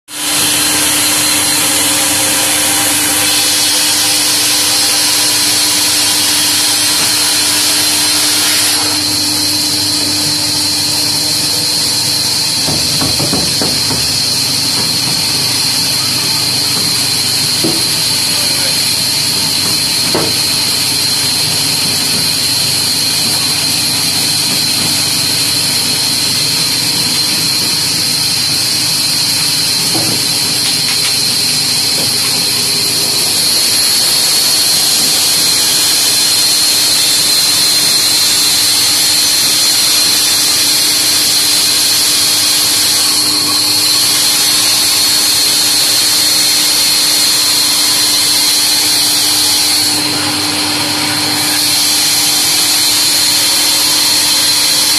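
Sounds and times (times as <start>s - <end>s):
band saw cutting wood: 0.1s - 54.9s.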